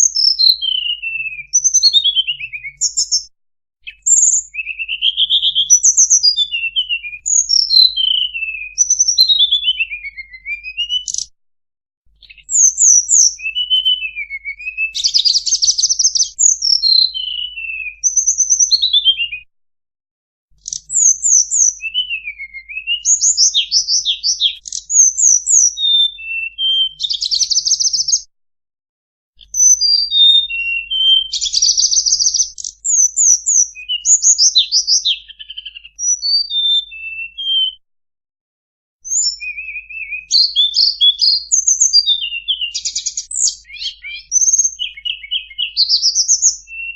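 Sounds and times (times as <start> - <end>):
bird song with chirps and trills: 0.0 - 11.4, 12.1 - 19.5, 20.5 - 28.3, 29.4 - 37.8, 39.0 - 46.9.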